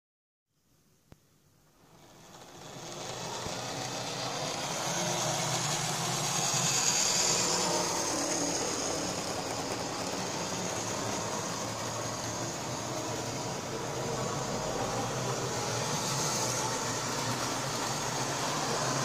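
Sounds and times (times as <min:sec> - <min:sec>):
model train wheels on rails: 0:01.6 - 0:19.0
model train motor whirring: 0:01.8 - 0:19.0.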